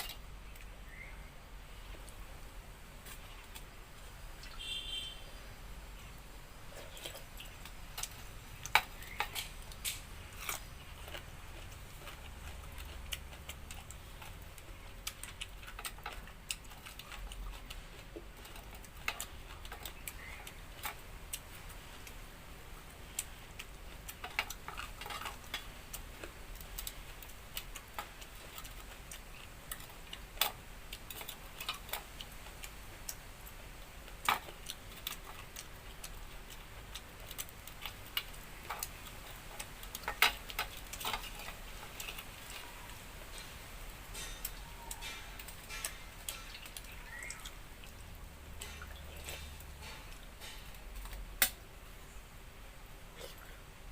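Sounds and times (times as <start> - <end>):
person eating with smacks: 6.0 - 51.6, 53.0 - 53.9.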